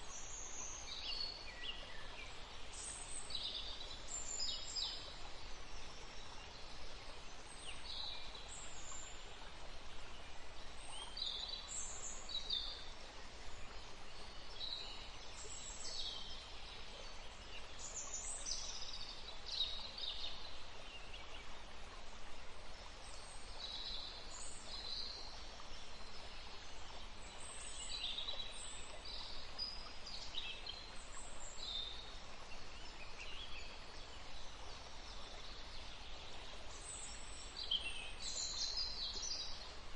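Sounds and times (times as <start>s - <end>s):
forest stream rushing: 0.0s - 39.9s
songbirds singing: 0.0s - 39.9s.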